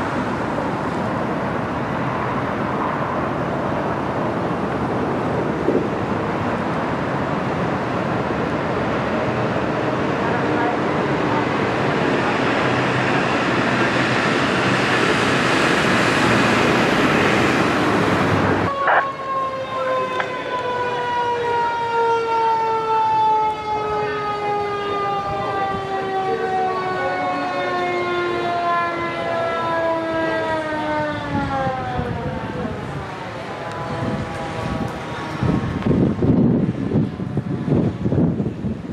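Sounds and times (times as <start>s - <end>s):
road traffic and engine rushing: 0.0s - 38.9s
fire engine siren winding down: 3.8s - 38.8s.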